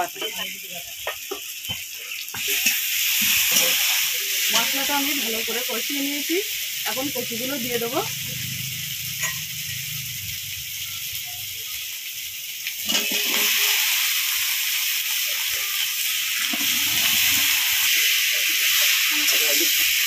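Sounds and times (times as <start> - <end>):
spice paste sizzling in oil: 0.0 - 20.0.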